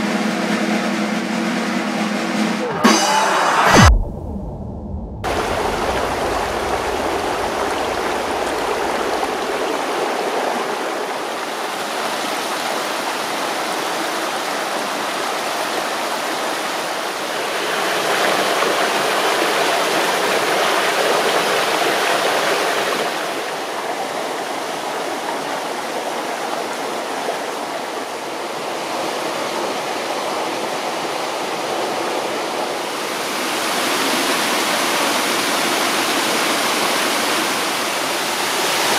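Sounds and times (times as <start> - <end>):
waterfall roaring: 5.2 - 38.9.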